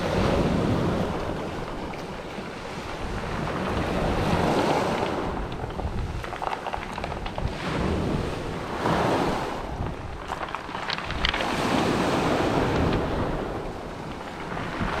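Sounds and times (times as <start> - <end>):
sea waves washing onto shore: 0.0 - 15.0
wind buffeting microphone: 0.0 - 15.0.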